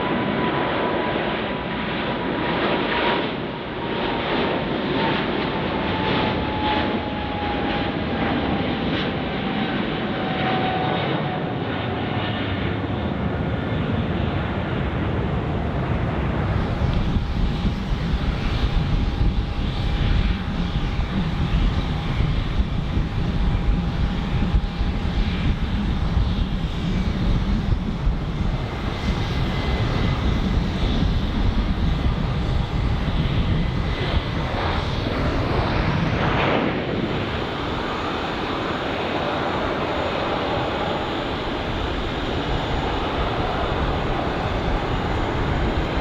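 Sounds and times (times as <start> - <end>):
faint steady engine whine: 0.0 - 46.0
jet engines rumbling: 0.0 - 46.0.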